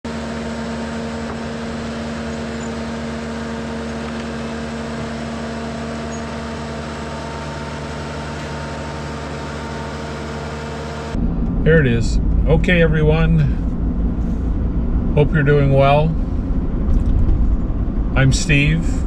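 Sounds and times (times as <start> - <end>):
asphalt paver engine hum: 0.0 - 19.0.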